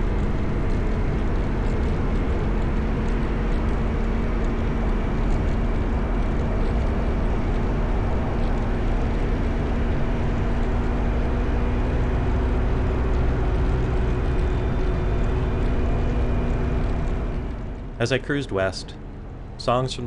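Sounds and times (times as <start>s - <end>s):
motorcycle engine: 0.0s - 20.0s
wind and road noise: 0.0s - 20.0s.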